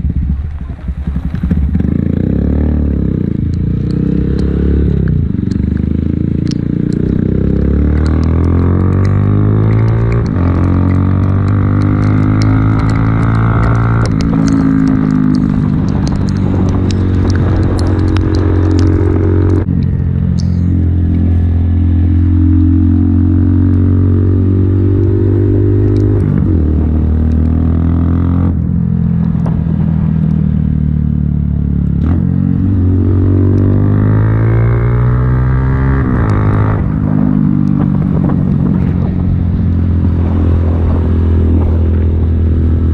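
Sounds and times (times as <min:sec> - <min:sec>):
motorbike engine accelerating: 0:00.0 - 0:42.9.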